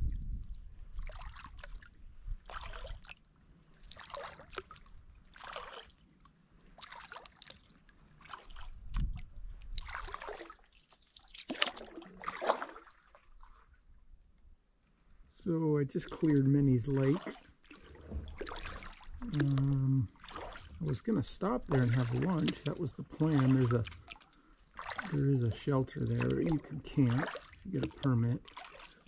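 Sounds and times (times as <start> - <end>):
water dribbling off paddle: 0.4 - 13.6, 16.0 - 29.0
kayak paddle strokes in water: 0.4 - 13.8, 16.0 - 29.0.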